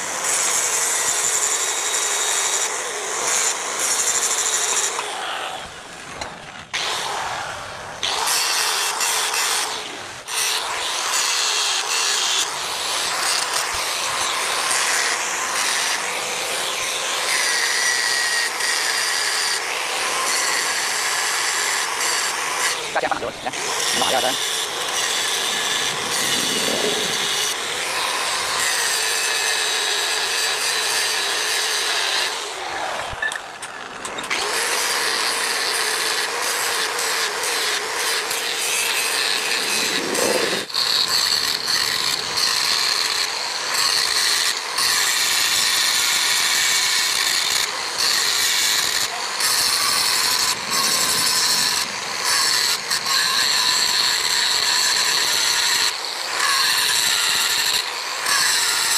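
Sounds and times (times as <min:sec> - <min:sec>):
angle grinder grinding metal: 0:00.0 - 0:58.9.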